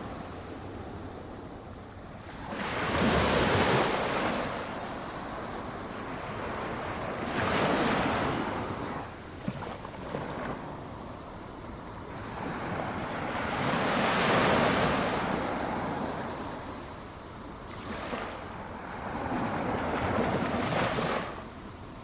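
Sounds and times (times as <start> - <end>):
small waves breaking on shore: 2.2 - 16.9, 17.6 - 22.0.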